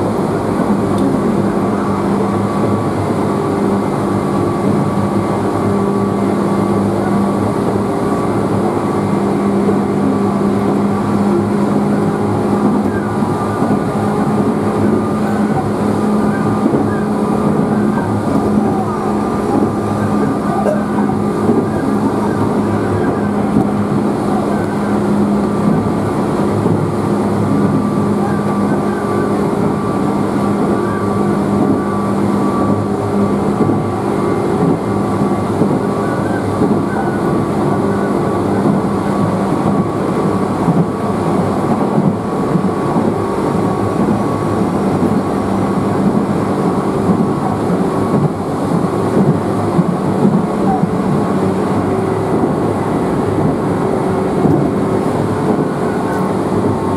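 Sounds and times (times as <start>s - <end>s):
constant low hum: 0.0s - 56.9s
train wheels rumbling on rails: 0.0s - 56.9s.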